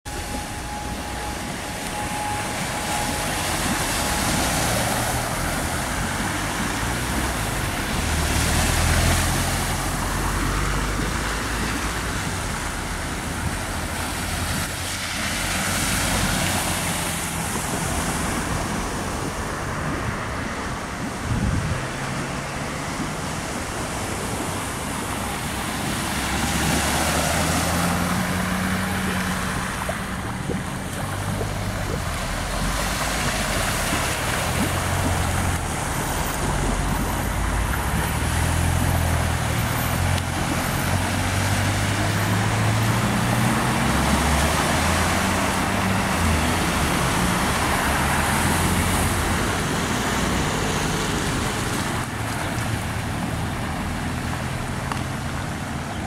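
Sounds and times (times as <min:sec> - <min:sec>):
rush of water and traffic: 0:00.0 - 0:56.0
tyres swishing through water: 0:00.1 - 0:56.0.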